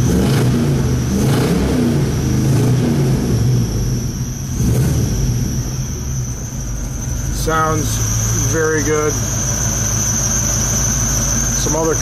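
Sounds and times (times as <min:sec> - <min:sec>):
engine running through exhaust: 0:00.0 - 0:12.0.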